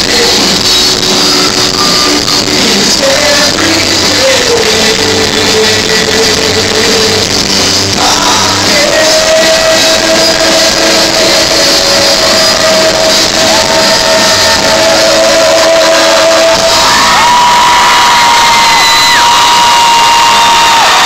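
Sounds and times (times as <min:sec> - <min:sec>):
live rock band: 0:00.0 - 0:21.0
voices singing long notes: 0:00.0 - 0:21.0.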